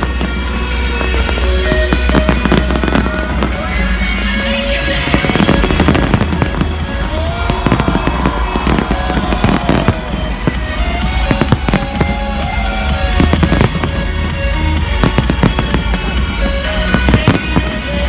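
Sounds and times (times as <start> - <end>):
fireworks bangs and crackles: 0.0 - 18.0
music playing: 0.0 - 18.0.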